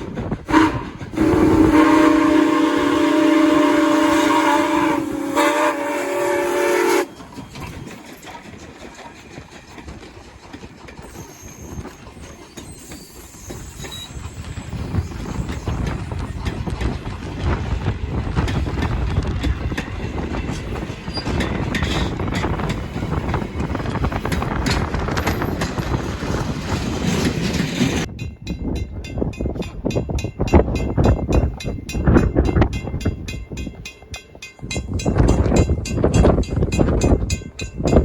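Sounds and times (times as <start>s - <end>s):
train rumble: 0.0s - 38.0s
train wheels clicking over rails: 0.0s - 38.0s.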